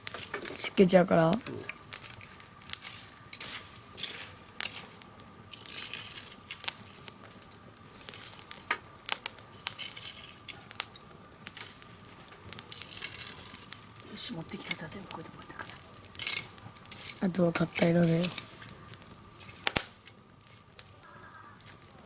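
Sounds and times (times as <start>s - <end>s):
firewood crackling and popping: 0.0s - 22.0s
hissing of fire: 0.0s - 22.0s.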